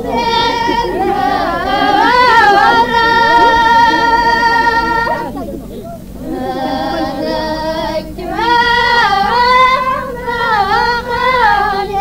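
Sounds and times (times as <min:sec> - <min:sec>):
women singing: 0:00.0 - 0:12.0.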